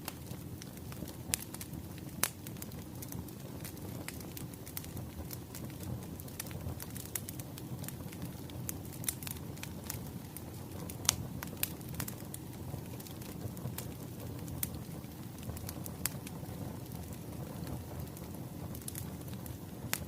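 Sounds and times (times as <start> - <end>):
rumble of burning logs: 0.0 - 20.0
wood fire crackling: 0.0 - 20.0.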